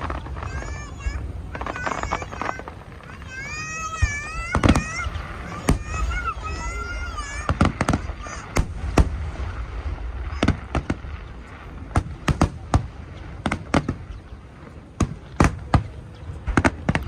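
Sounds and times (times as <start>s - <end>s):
dull background rumble: 0.0s - 17.0s
fireworks bursting with sharp bangs: 0.0s - 17.0s.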